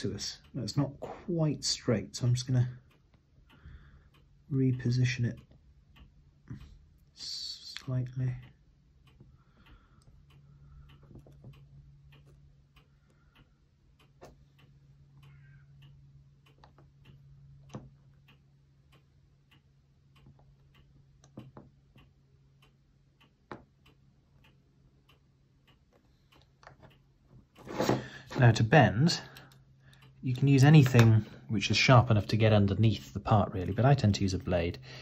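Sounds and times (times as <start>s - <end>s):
light clicks and ticks: 0.0s - 35.0s
low steady hum: 0.0s - 35.0s.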